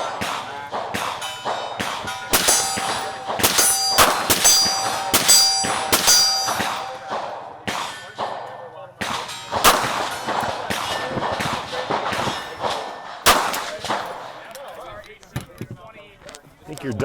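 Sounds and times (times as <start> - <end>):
rapid pistol shots: 0.0 - 14.6
steel target plate clanging: 0.0 - 15.7.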